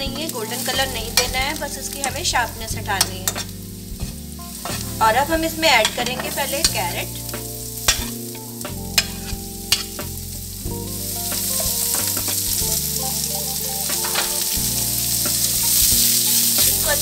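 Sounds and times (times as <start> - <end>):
hot oil sizzling in a frying pan: 0.0 - 17.0.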